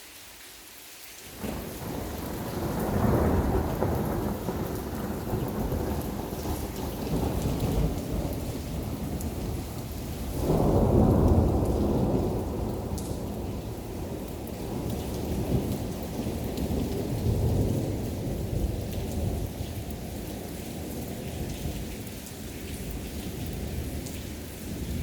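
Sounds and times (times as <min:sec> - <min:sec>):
steady rain: 0:00.0 - 0:25.0
rolling thunder: 0:01.4 - 0:21.5.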